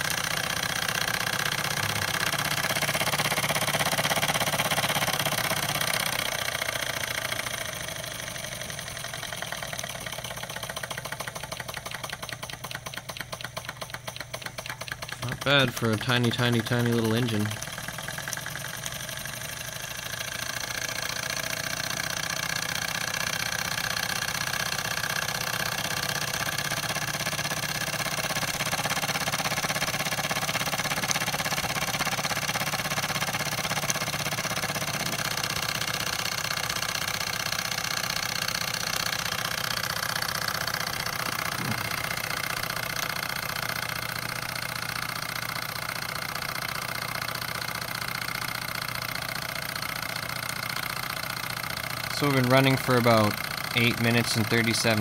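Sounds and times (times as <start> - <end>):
engine rattling on ceramic tile: 0.0 - 55.0
toy steam engine chuffing: 0.0 - 55.0.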